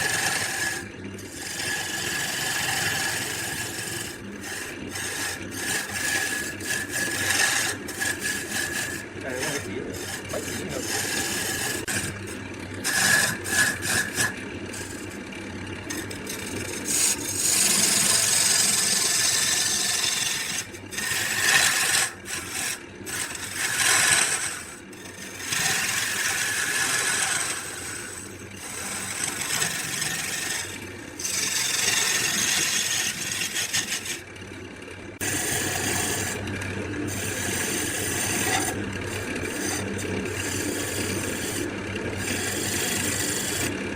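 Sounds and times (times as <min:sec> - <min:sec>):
tool rasping on wood: 0:00.0 - 0:34.3, 0:35.2 - 0:43.8.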